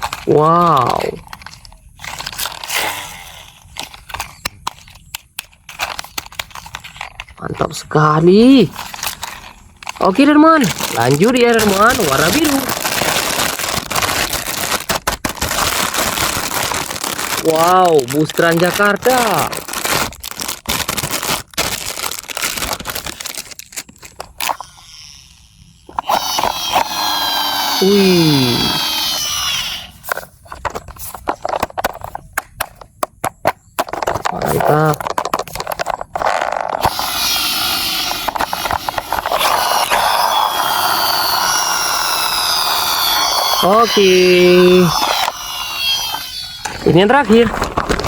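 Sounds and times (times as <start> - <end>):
packaging rustling: 0.0 - 7.7, 8.3 - 25.0, 25.9 - 48.0.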